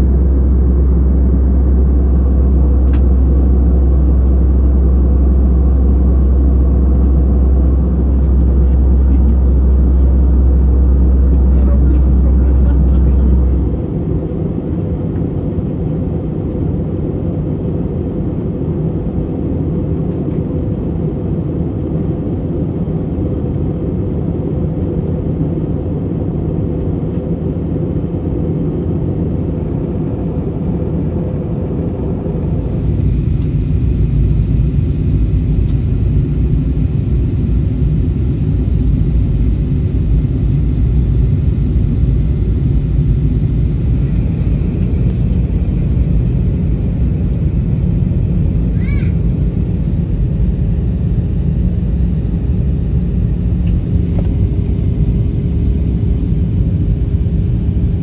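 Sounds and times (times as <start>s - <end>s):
airliner low rumble: 0.0s - 58.0s.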